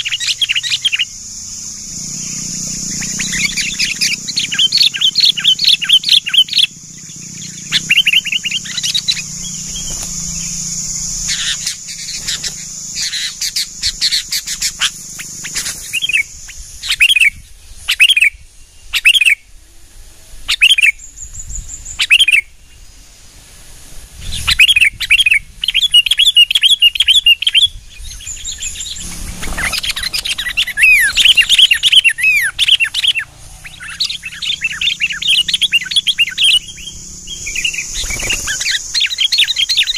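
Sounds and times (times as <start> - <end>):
bulbuls chirping: 0.0 - 23.6, 24.2 - 39.9.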